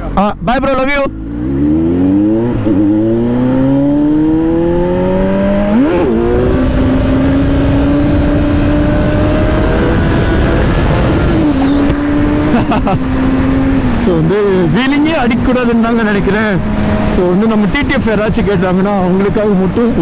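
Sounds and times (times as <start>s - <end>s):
motorcycle engine accelerating: 0.9s - 18.7s.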